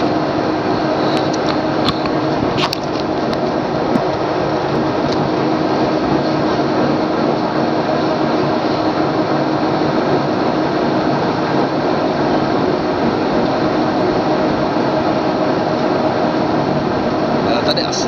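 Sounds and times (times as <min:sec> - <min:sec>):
boat engine running: 0:00.0 - 0:18.0
rush of noise: 0:00.0 - 0:18.0.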